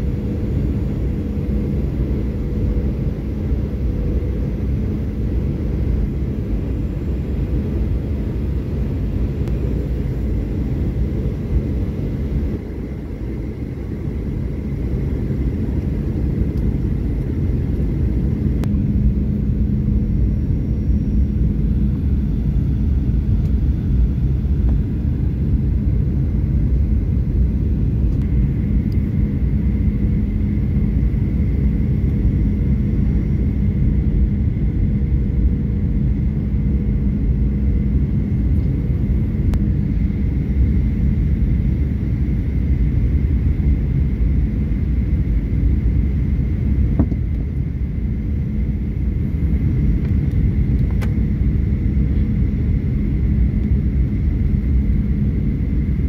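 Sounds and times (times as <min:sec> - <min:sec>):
airliner cabin engine rumble: 0:00.0 - 0:56.0
faint steady hum: 0:00.0 - 0:56.0.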